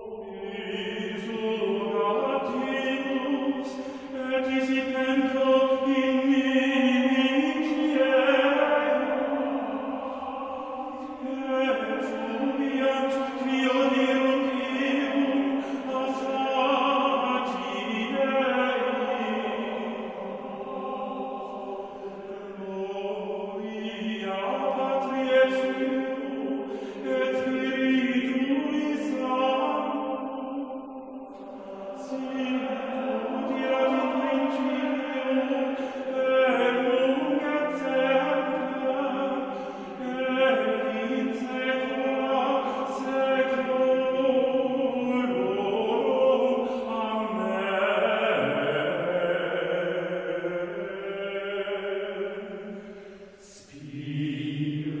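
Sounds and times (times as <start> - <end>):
choral chant: 0.0 - 55.0.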